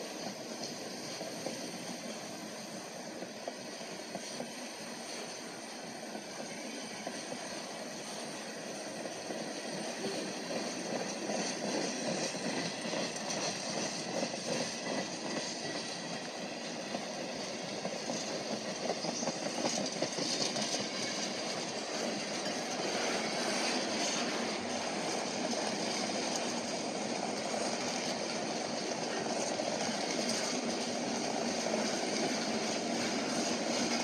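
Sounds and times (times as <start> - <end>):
steel train wheels on rails: 0.0 - 34.0.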